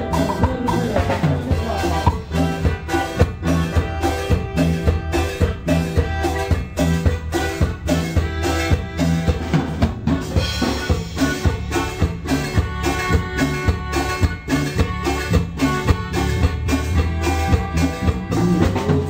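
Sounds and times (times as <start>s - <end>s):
drum kit steady beat: 0.0s - 19.0s
instrumental band music: 0.0s - 19.0s.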